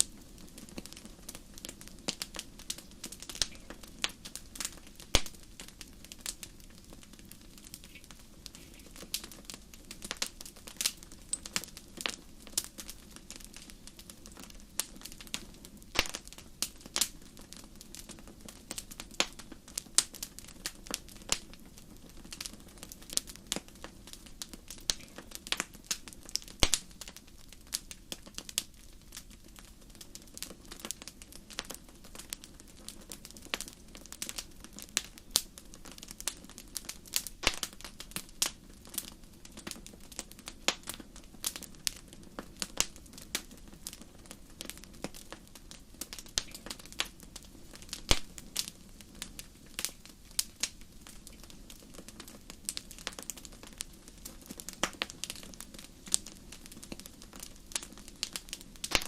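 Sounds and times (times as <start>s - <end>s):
low steady burning: 0.0s - 59.0s
wood fire crackling: 0.0s - 59.0s.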